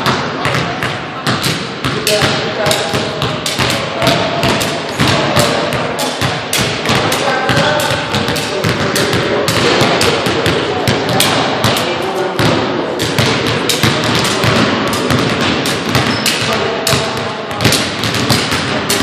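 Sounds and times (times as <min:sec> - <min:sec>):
basketballs dribbling on hardwood: 0:00.0 - 0:19.0.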